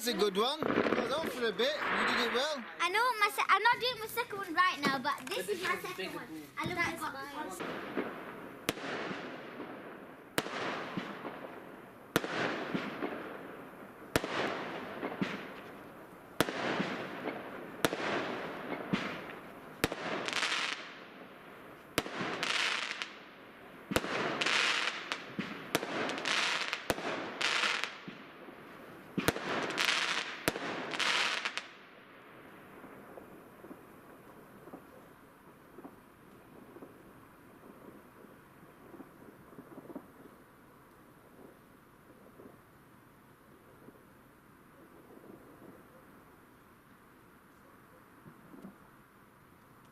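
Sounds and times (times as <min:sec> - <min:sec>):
fireworks bang and crackle: 0:00.0 - 0:47.0.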